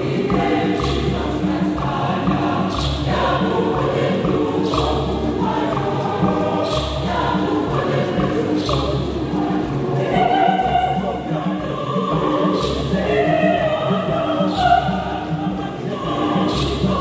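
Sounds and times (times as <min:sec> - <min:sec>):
choir singing a hymn: 0:00.0 - 0:17.0
deep drum beat: 0:00.0 - 0:17.0.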